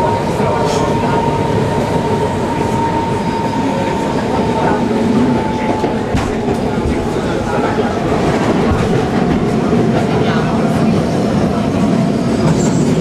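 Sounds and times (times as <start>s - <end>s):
train rumble and rattle: 0.0s - 13.0s.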